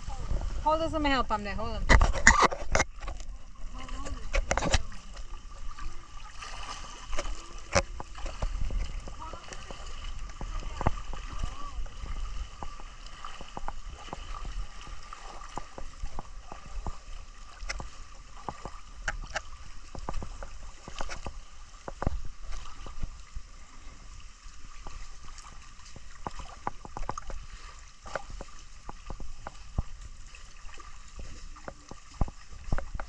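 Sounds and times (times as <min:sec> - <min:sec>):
water sloshing: 0:00.0 - 0:33.0.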